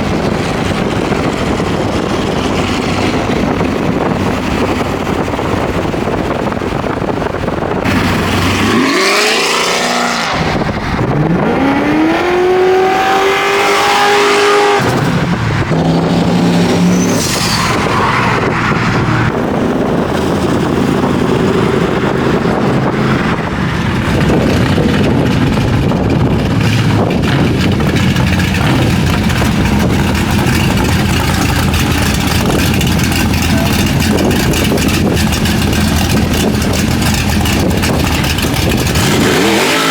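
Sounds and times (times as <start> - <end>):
car engine revving: 0.0 - 39.9
road noise: 0.0 - 39.9.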